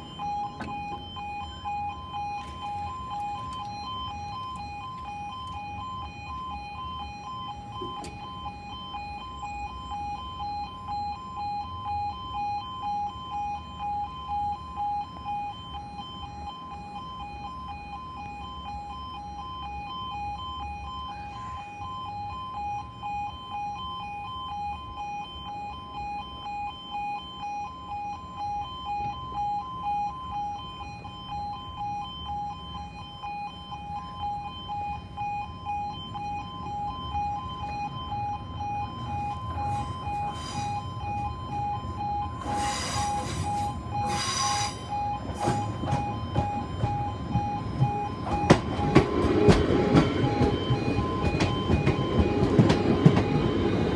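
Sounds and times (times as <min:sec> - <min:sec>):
level crossing warning alarm: 0:00.0 - 0:53.9.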